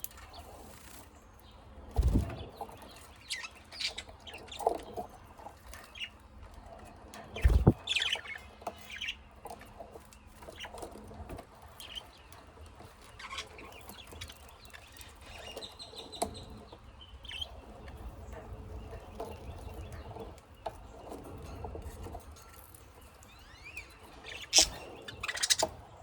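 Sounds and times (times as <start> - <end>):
caged birds chirping: 0.0 - 26.0.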